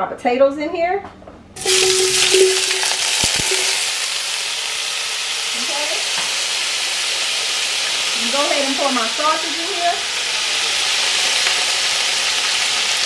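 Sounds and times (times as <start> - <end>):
potatoes sizzling in hot oil: 1.6 - 13.0.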